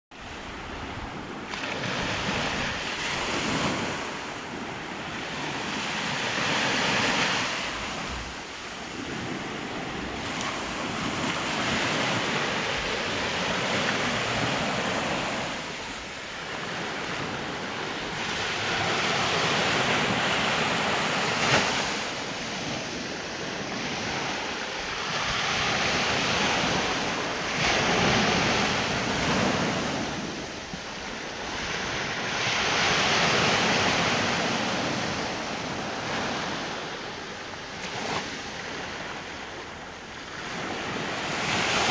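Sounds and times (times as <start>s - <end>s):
sea surf breaking: 0.2s - 41.9s
wind rumbling on microphone: 0.2s - 41.9s.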